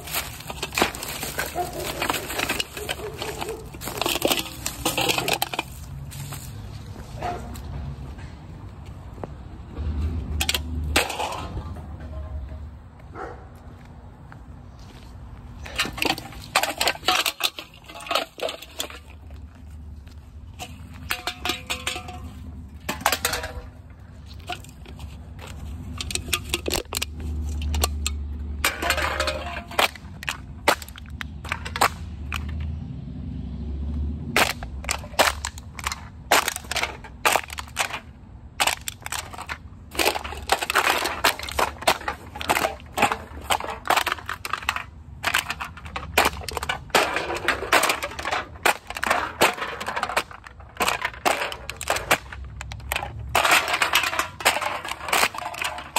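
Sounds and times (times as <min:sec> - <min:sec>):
cans crushed underfoot on asphalt: 0:00.0 - 0:07.6, 0:10.4 - 0:11.7, 0:14.7 - 0:32.7, 0:34.3 - 0:55.9.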